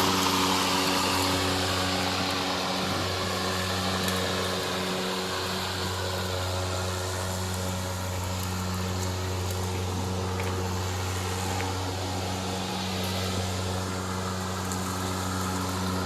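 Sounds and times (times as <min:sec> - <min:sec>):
lawn mower motor hum: 0:00.0 - 0:16.0
rush of air and grass: 0:00.0 - 0:16.0.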